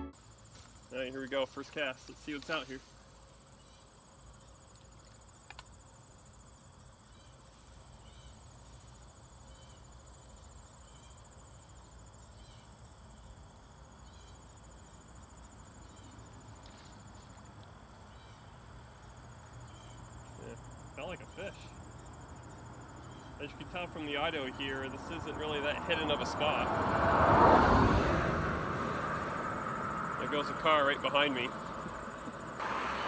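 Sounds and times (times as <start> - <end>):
insects trilling: 0.1 - 33.0.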